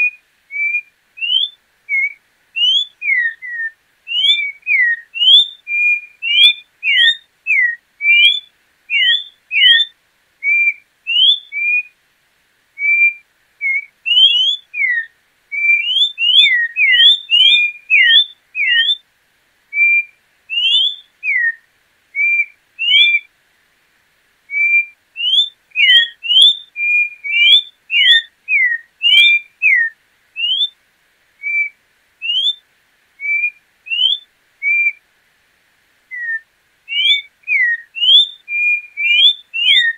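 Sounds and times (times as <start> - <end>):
bird whistling song: 0.0 - 11.9, 12.8 - 19.0, 19.7 - 23.3, 24.5 - 30.8, 31.4 - 32.6, 33.2 - 35.0, 36.1 - 39.9.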